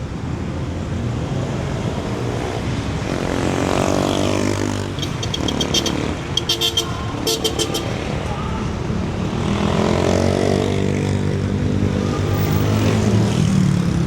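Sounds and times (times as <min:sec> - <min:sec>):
car and motorcycle engines: 0:00.0 - 0:14.0.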